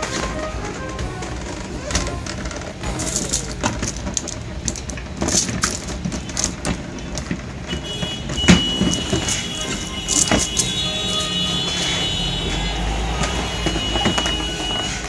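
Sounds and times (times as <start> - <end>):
plastic drawers sliding and knocking: 0.0 - 12.1.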